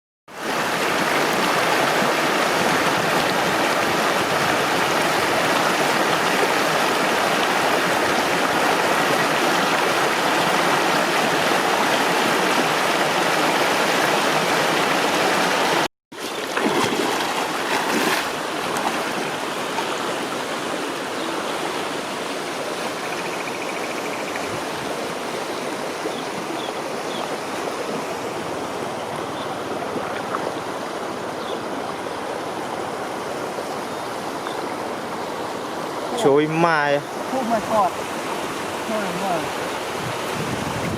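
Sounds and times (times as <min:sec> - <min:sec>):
floodwater rushing: 0:00.3 - 0:23.2, 0:24.4 - 0:40.9.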